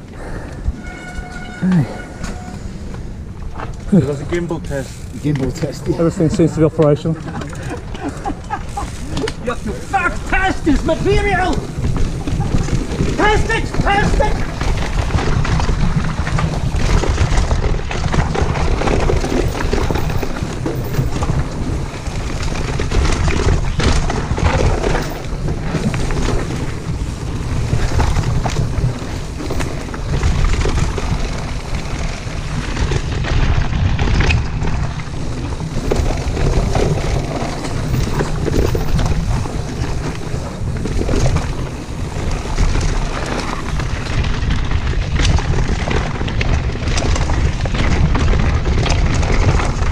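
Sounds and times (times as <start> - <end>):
bike knocks and rattles: 0.0 - 49.9
tyre noise: 0.0 - 49.9
wind buffeting microphone: 0.0 - 49.9.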